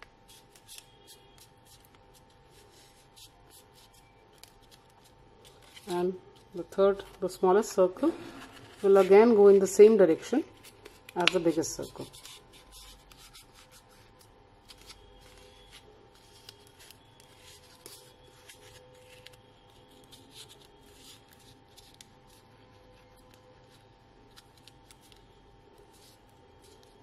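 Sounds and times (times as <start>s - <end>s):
card paper rustling and crinkling: 0.3s - 7.3s, 10.5s - 27.0s.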